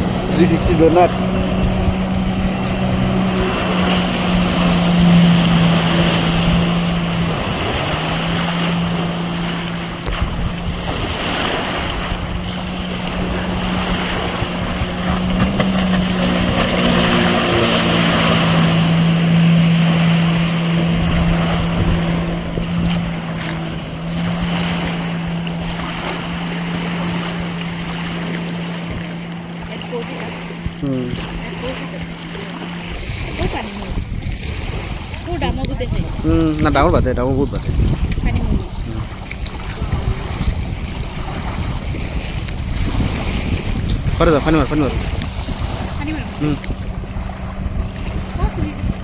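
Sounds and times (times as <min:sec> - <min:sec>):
motorboat engine running: 0:00.0 - 0:49.0
rushing water and wind: 0:00.0 - 0:49.0.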